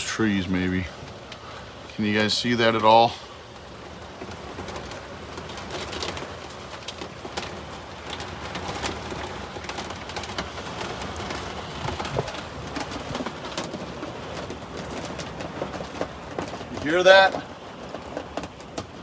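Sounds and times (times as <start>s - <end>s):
storm wind gusting: 0.0s - 19.0s
small clicks and rattles: 3.5s - 19.0s.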